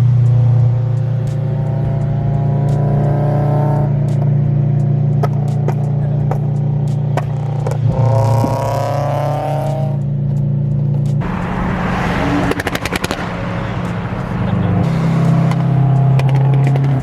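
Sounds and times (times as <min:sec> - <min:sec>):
exhaust pops and crackles: 0:00.0 - 0:17.0
rising whine: 0:00.0 - 0:17.0
sports car engine cruising: 0:00.0 - 0:17.0.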